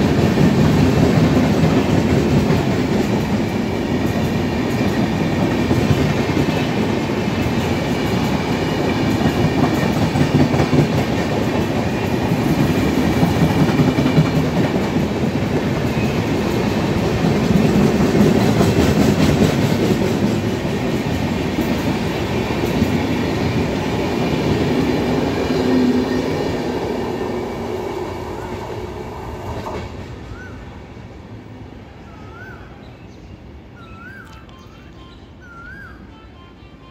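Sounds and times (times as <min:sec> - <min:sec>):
passenger train passing at speed: 0:00.0 - 0:36.9.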